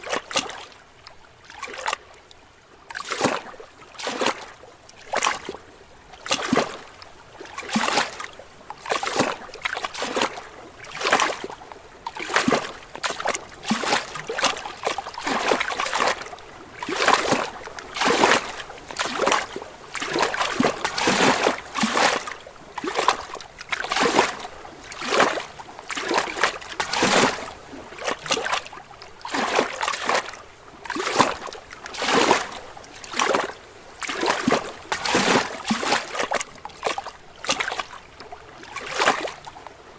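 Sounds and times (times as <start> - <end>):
waves lapping against rocks: 0.0 - 39.9.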